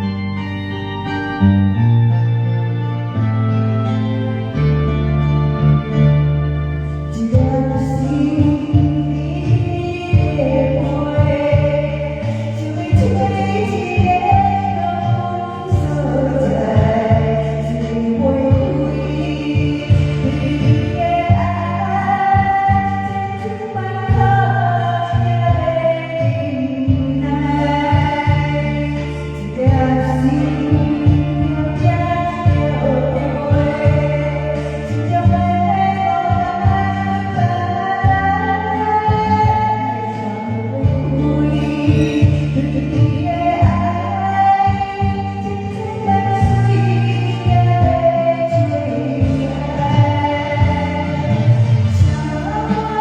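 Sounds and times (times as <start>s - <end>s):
repeating bass beat: 0.0s - 12.1s, 12.7s - 23.4s, 26.8s - 39.9s, 40.7s - 48.2s, 48.9s - 53.0s
person singing karaoke: 0.0s - 53.0s.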